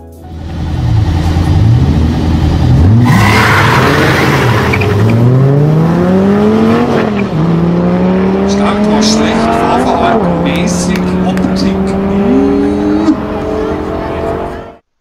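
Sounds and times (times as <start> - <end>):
car engine revving and accelerating: 0.4 - 14.8.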